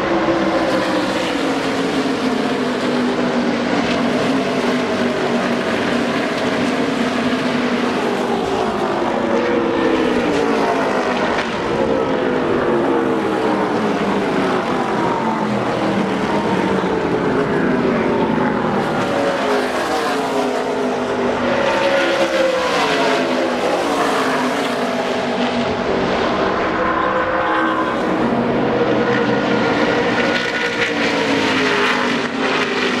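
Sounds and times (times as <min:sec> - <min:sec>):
race car engines passing: 0:00.0 - 0:33.0.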